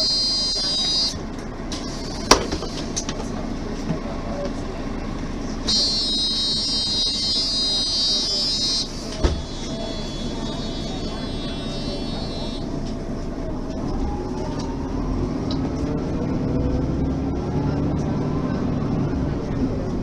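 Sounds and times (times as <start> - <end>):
bus engine running: 0.0 - 20.0.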